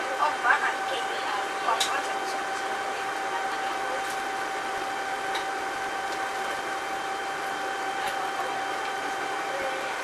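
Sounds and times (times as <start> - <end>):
bus engine whine: 0.0 - 10.0.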